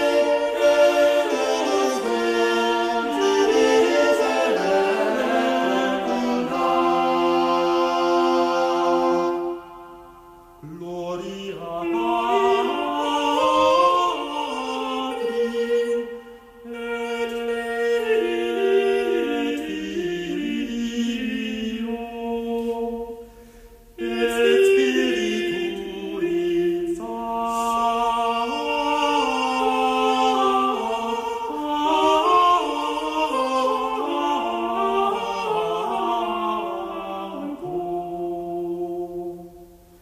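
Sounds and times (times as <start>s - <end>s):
choir singing sustained chords: 0.0s - 40.0s.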